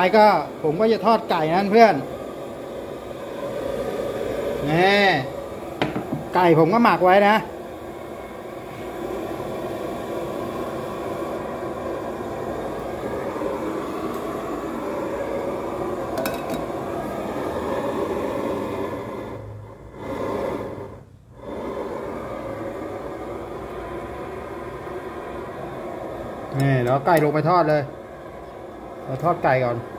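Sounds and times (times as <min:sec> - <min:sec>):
gas burner roaring: 0:00.0 - 0:29.9.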